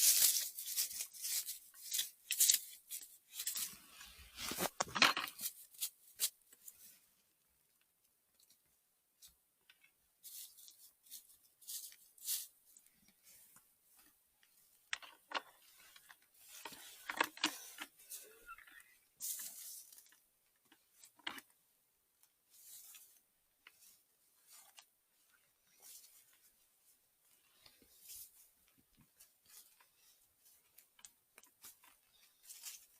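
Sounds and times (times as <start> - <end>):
rustling and scraping of handling: 0.0 - 32.9.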